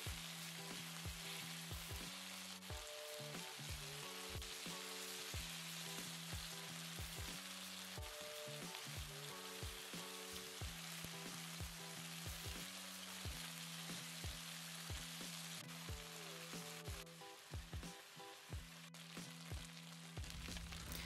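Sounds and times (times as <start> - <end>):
background music with a beat: 0.0 - 21.0
chicken sizzling in hot oil: 0.0 - 21.0.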